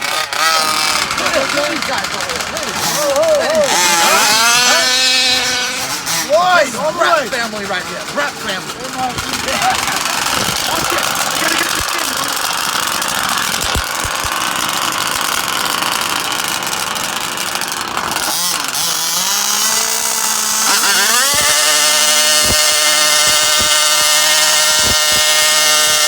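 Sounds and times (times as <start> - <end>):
engine revving high-pitched buzz: 0.0 - 26.0
small two-stroke engines buzzing: 0.0 - 26.0.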